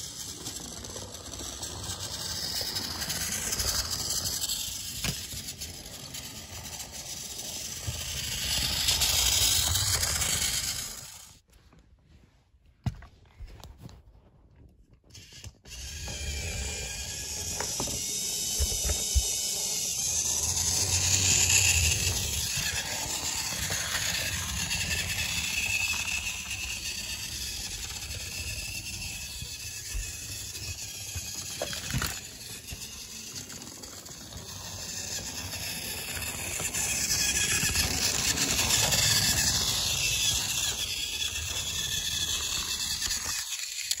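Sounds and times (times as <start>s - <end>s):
toy train motor whine: 0.0s - 11.4s, 15.1s - 44.0s.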